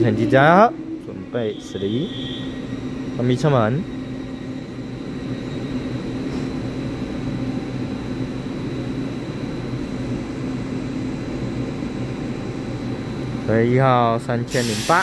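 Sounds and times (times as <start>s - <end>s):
electric train idling hum: 0.0s - 15.0s
thin high whine: 0.0s - 15.0s.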